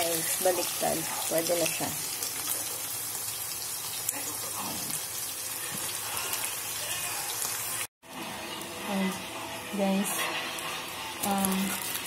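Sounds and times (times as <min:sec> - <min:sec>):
sausages sizzling in oil: 0:00.0 - 0:12.0.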